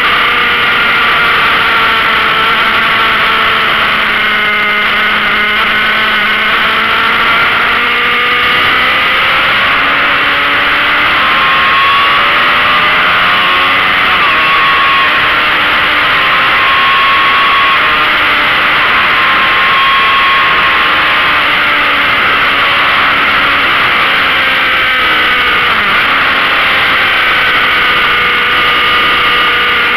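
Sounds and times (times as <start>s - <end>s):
motorcycle engine hum: 0.0s - 29.9s.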